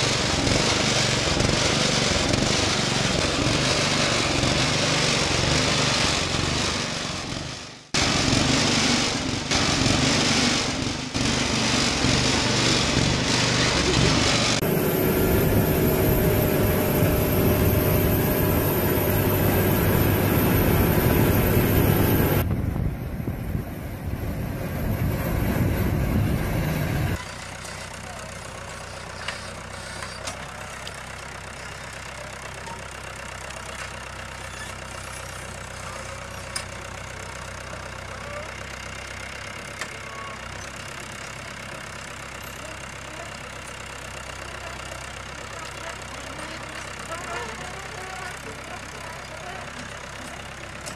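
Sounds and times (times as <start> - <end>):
tractor engines running: 0.0 - 50.9.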